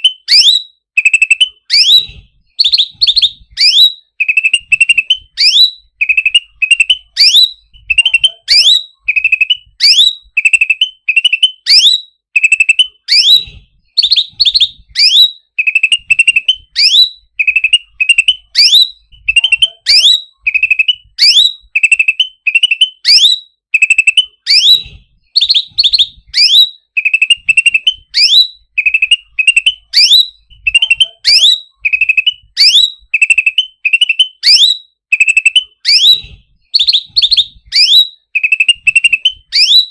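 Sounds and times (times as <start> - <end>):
songbird chatter and whistle: 0.0 - 39.9.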